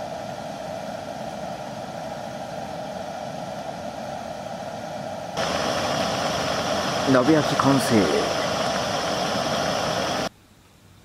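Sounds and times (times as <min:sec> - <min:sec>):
camp stove flame rushing: 0:00.0 - 0:10.3.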